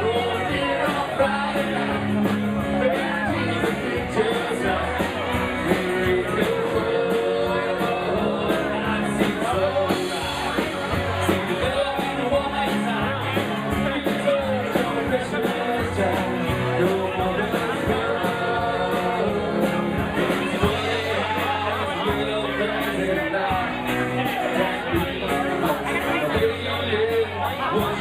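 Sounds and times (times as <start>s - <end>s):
lead vocal singing: 0.0s - 28.0s
live country rock band: 0.0s - 28.0s.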